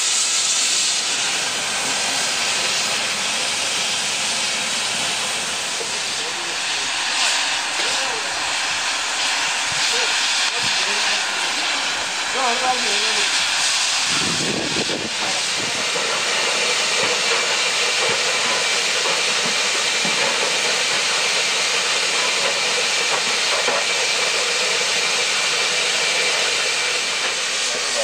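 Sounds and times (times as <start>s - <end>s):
steam hissing from a locomotive: 0.0s - 28.0s.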